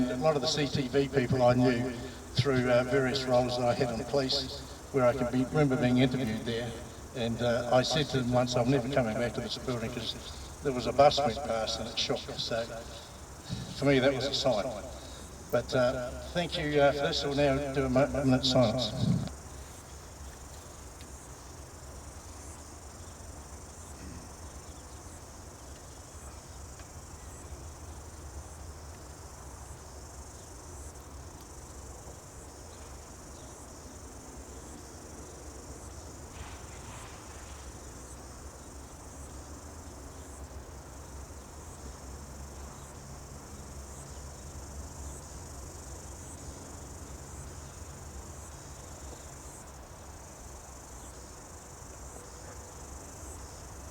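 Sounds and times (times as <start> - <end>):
insects chorus: 0.0 - 53.9.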